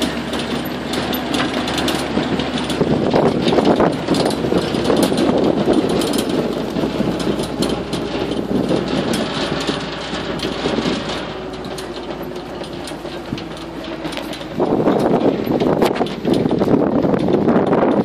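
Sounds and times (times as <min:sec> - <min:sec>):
open vehicle rattling: 0:00.0 - 0:18.0
swamp buggy engine running: 0:00.0 - 0:18.0.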